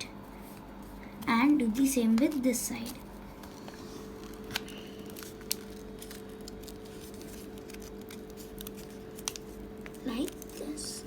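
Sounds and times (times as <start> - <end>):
background hum: 0.0 - 11.0
paper rustling: 1.7 - 11.0.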